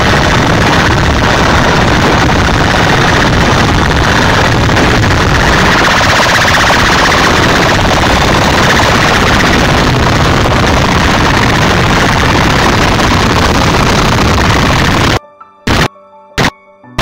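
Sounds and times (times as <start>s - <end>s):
distorted dj music on loudspeakers: 0.0s - 16.5s.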